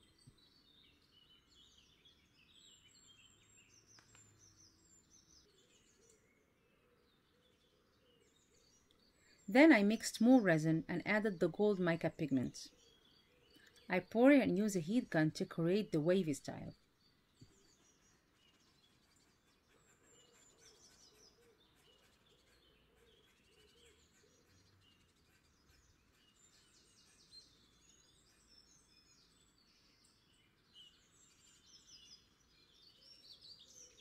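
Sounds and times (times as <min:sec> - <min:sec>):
faint bird chirps: 0:00.0 - 0:34.0.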